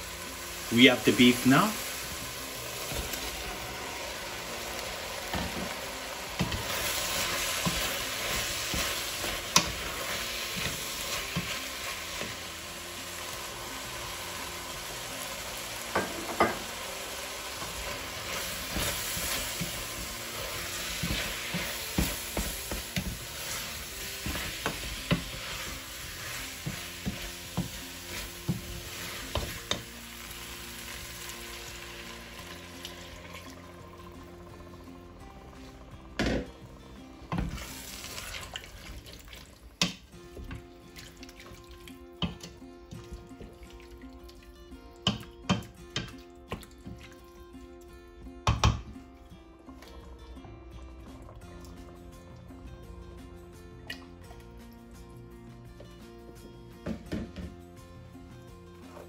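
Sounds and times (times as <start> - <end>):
meat and vegetables sizzling in pot: 0.0 - 53.4, 56.0 - 59.0.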